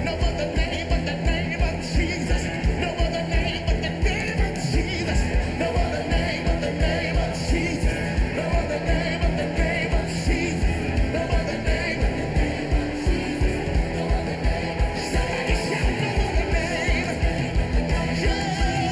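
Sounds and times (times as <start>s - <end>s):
drum beat: 0.0s - 18.9s
rock band playing: 0.0s - 18.9s
voices singing: 0.0s - 18.9s.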